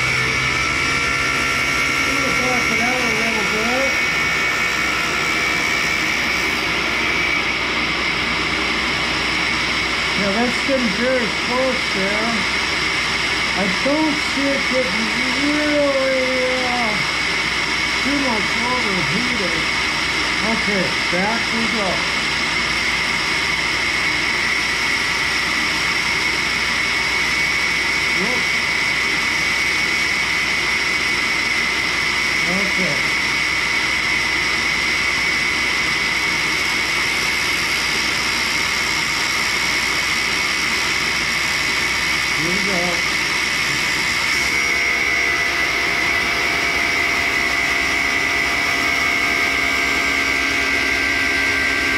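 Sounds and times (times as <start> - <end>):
grinder cutting metal: 0.0 - 22.3, 23.1 - 51.9.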